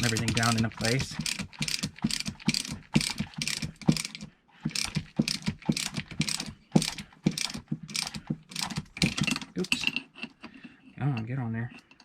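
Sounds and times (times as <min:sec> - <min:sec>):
ratcheting wrench clicking: 0:00.0 - 0:09.9.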